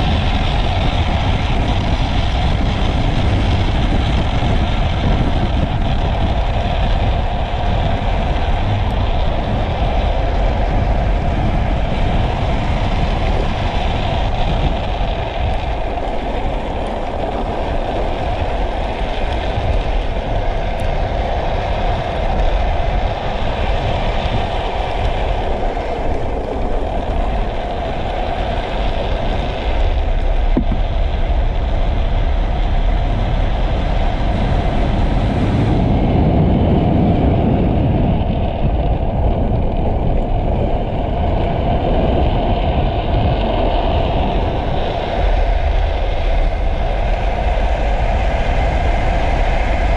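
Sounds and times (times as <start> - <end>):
wheels rumbling on asphalt: 0.0 - 49.9
wind rushing on microphone: 0.0 - 49.9.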